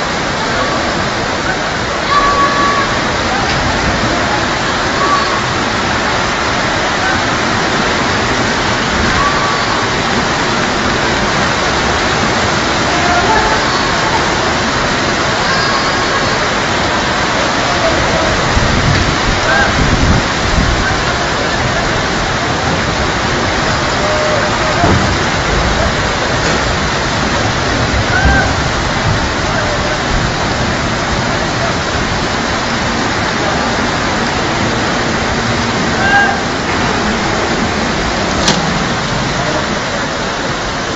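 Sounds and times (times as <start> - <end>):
heavy rain: 0.0 - 40.9
loud rush of water: 0.0 - 40.9.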